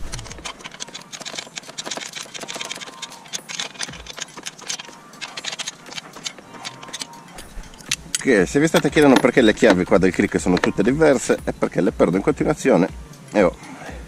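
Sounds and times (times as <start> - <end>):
metal wrenches clinking: 0.0 - 11.4.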